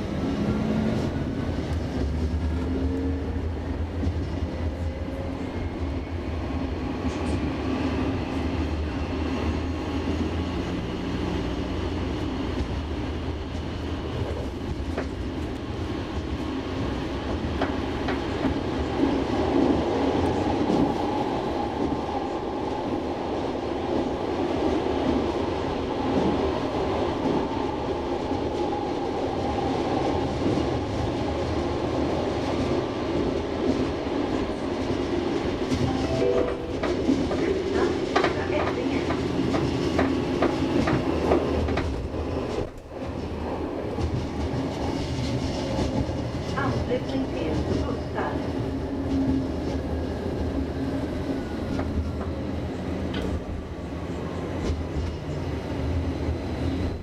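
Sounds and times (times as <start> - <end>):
tram wheels rumbling on rail: 0.0 - 57.0.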